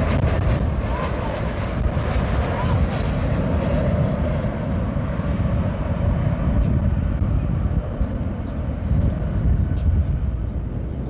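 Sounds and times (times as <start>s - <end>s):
jet engines rushing and rumbling: 0.0s - 11.0s
thin jet engine whine: 0.0s - 11.0s.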